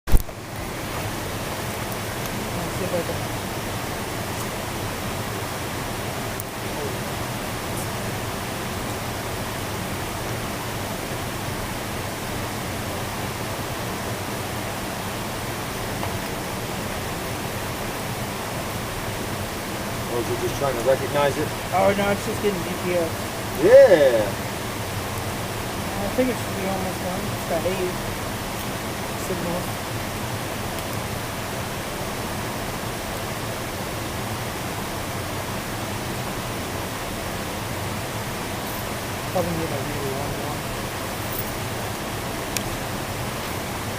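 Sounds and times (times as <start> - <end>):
steady rushing noise: 0.1 - 43.9.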